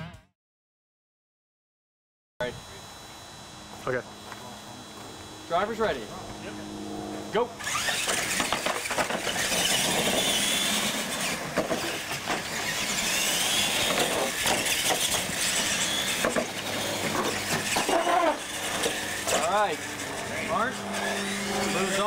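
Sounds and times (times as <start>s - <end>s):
electric motor whine: 2.4s - 22.0s.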